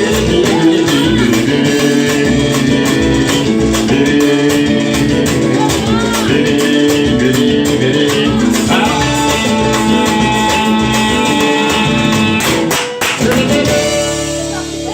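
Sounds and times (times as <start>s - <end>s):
samba music with percussion: 0.0s - 14.9s.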